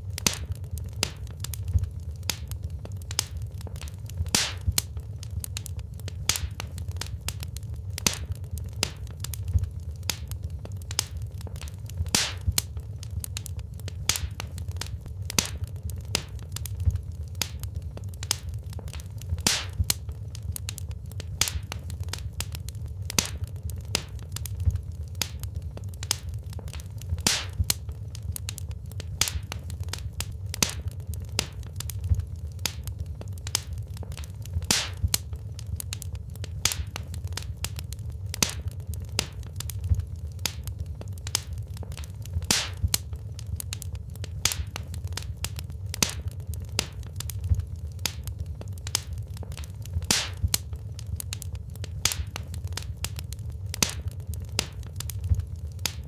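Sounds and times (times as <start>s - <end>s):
fire crackling and popping: 0.0s - 56.0s
flames rumbling: 0.0s - 56.0s.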